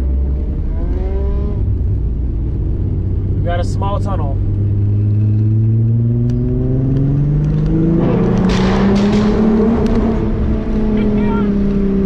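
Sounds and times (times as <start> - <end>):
car engine accelerating: 0.0 - 12.0
exhaust crackle: 0.0 - 12.0.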